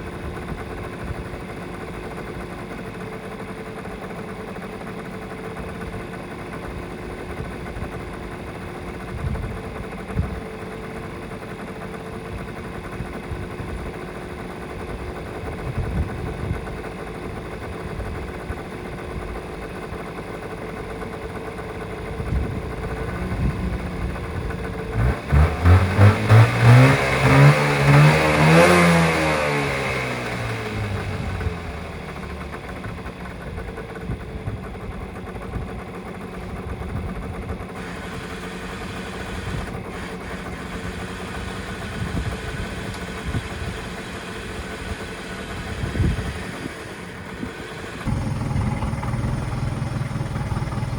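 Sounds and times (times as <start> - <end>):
small car engine idling and revving: 0.0 - 50.9.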